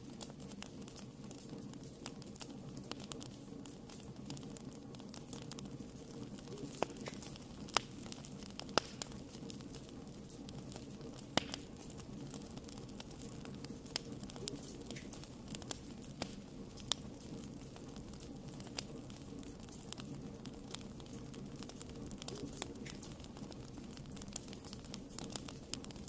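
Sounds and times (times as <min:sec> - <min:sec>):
fire crackling and popping: 0:00.0 - 0:26.0
flames hissing: 0:00.0 - 0:26.0.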